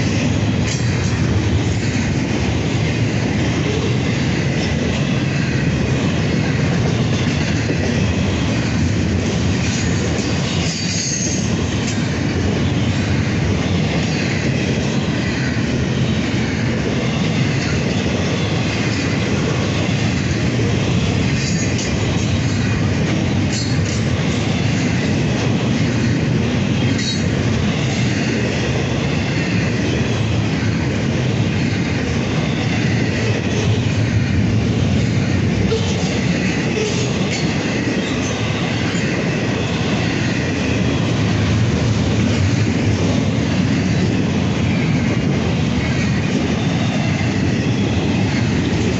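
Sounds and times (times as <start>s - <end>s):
train cars rumbling on rails: 0.0s - 48.9s.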